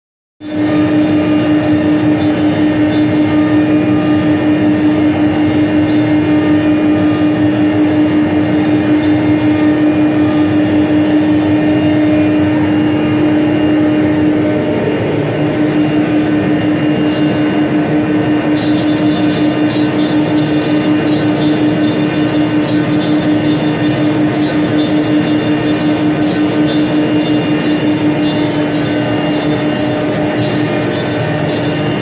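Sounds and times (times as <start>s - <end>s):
router spindle whine: 0.4s - 32.0s.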